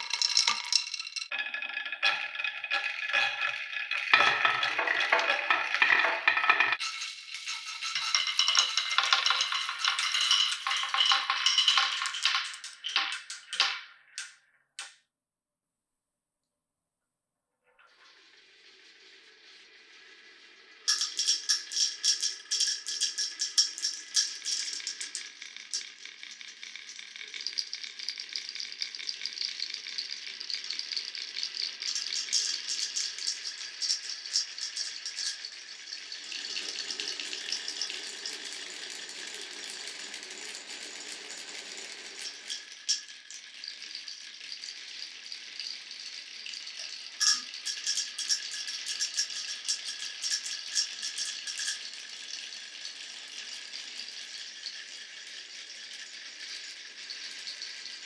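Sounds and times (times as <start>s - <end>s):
glass marbles clattering on wooden track: 0.0s - 15.0s, 20.8s - 58.0s.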